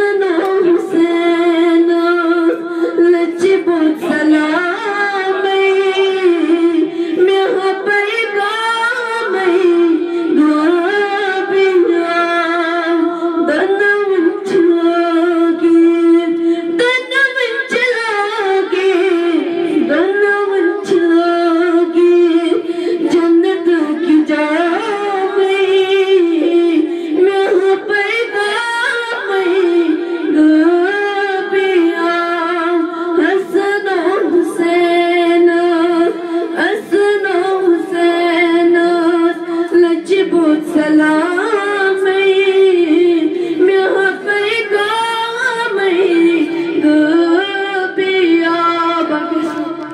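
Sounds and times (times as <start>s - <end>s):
woman singing unaccompanied: 0.0s - 49.9s.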